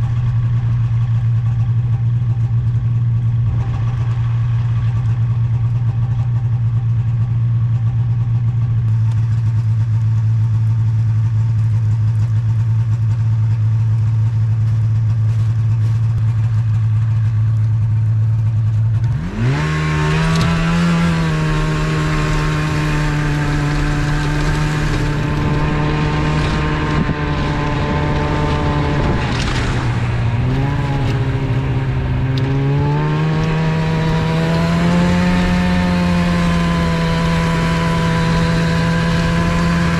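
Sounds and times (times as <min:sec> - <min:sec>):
snowmobile engine idling and revving: 0:00.0 - 0:39.9.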